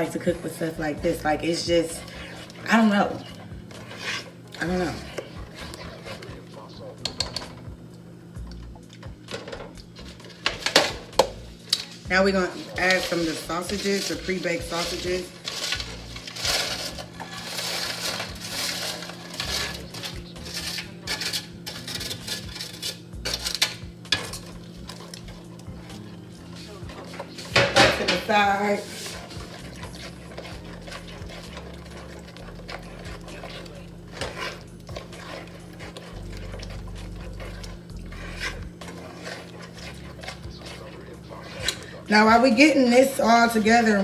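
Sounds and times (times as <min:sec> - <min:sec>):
utensils scraping a pan: 0:00.0 - 0:07.7, 0:09.3 - 0:44.0
steady low hum: 0:00.0 - 0:44.0.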